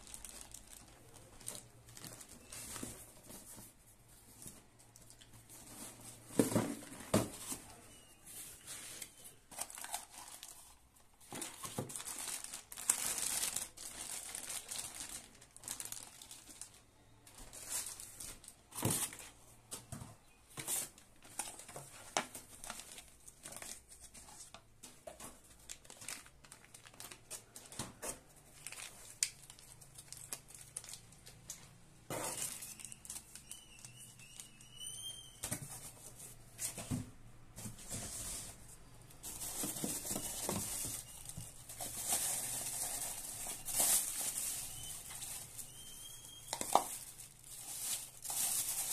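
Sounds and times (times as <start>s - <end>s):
plastic bags crinkling: 0.0s - 19.4s, 20.6s - 34.9s, 39.2s - 48.9s.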